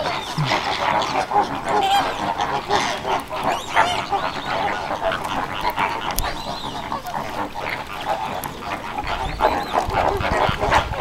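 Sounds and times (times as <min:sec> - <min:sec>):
flamingos honking: 0:00.0 - 0:11.0
flock gabbling chatter: 0:00.0 - 0:11.0.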